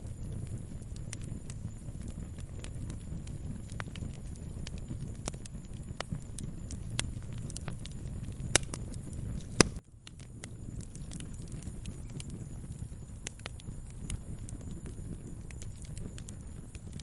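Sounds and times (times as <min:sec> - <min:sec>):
low rumble of flames: 0:00.0 - 0:17.0
wood fire crackles and pops: 0:00.0 - 0:17.0.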